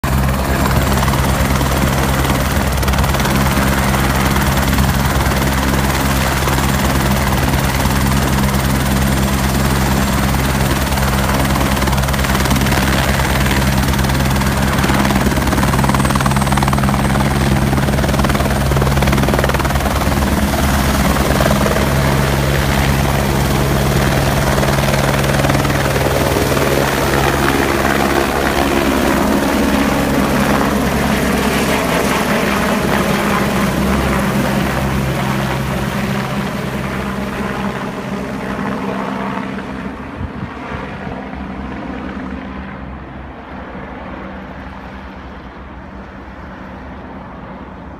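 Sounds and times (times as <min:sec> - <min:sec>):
helicopter rotor chop: 0:00.0 - 0:42.7.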